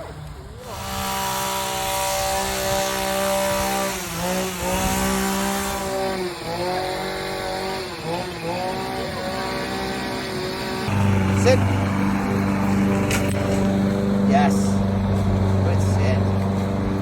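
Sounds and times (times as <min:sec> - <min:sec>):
small engine running at high speed: 0:00.0 - 0:17.0.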